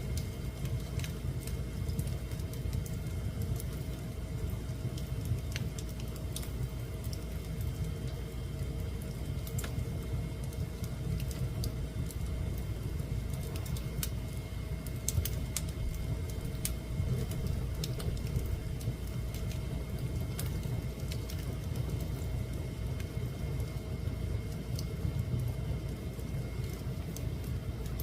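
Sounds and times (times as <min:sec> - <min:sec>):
fire crackling in fireplace: 0:00.0 - 0:28.0.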